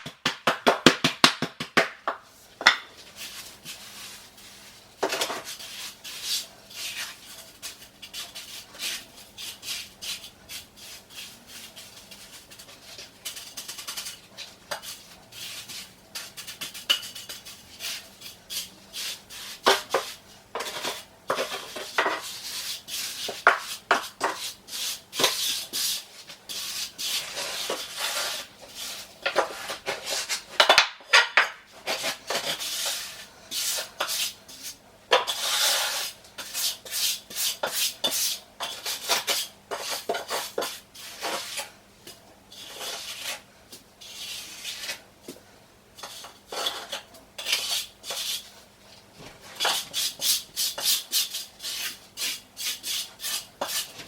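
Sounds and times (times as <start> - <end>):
tool scraping wet mortar: 3.0 - 41.8, 42.5 - 43.4, 44.0 - 45.0, 46.0 - 48.5, 49.4 - 54.0.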